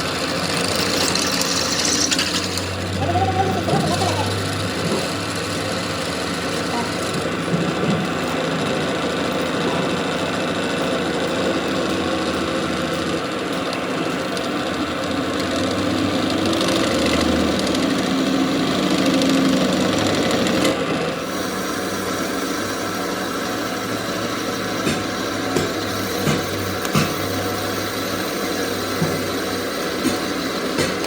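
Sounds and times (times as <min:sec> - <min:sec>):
machine running: 0:00.0 - 0:31.0.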